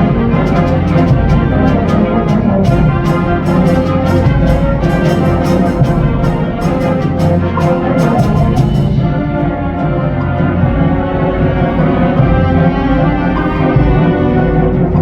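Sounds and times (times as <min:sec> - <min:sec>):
sharp percussion strokes: 0:00.0 - 0:12.6
low bass: 0:00.0 - 0:15.0
wind band chords: 0:00.0 - 0:15.0.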